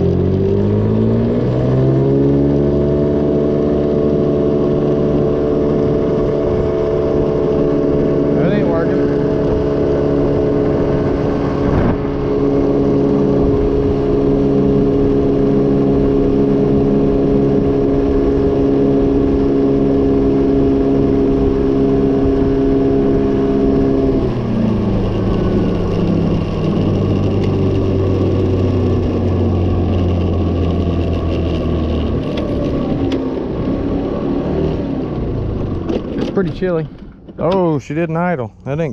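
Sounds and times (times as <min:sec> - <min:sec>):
scooter engine running: 0:00.0 - 0:37.7.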